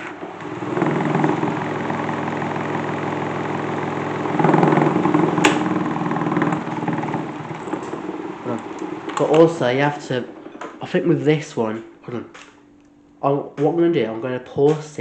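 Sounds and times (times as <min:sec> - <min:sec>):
electric fan motor humming: 0:00.0 - 0:15.0.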